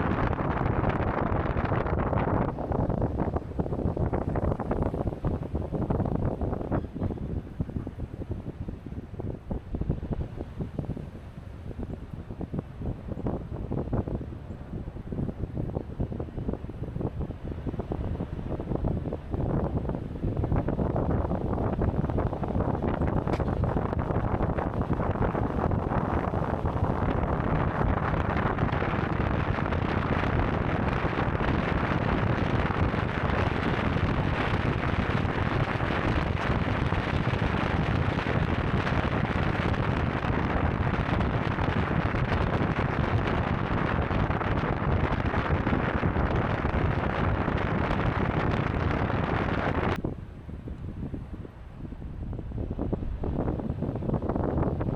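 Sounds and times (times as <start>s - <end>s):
road and tyre noise: 0.0s - 54.9s
wind buffeting microphone: 0.0s - 54.9s.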